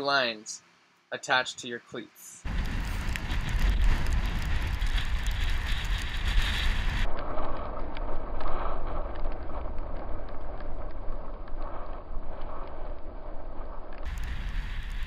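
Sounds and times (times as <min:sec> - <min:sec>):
wind blowing over microphone: 0:02.4 - 0:15.0.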